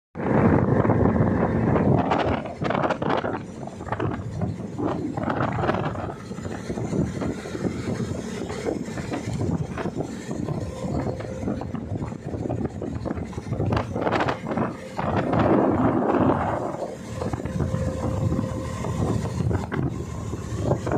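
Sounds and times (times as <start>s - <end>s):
boat engine running: 0.2s - 20.9s
wind on microphone: 0.2s - 20.9s
water rushing: 0.4s - 20.9s.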